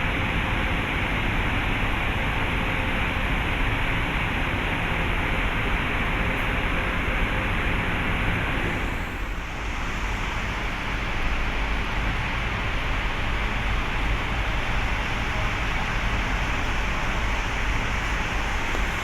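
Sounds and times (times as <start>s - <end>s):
engines rumbling and hissing: 0.2s - 19.0s.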